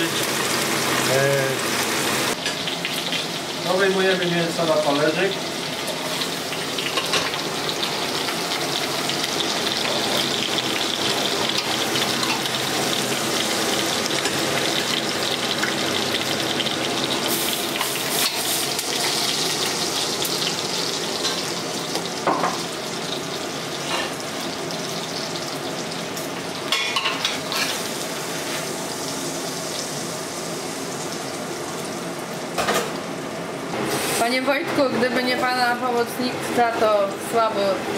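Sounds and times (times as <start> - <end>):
meat sizzling in a pot: 0.0 - 37.9.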